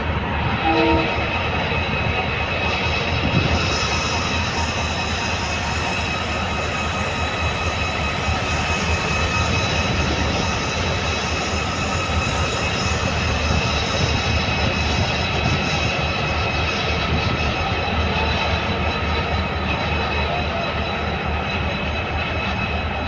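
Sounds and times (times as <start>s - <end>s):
constant high whine: 0.0s - 23.0s
diesel train rumbling past: 0.0s - 23.0s.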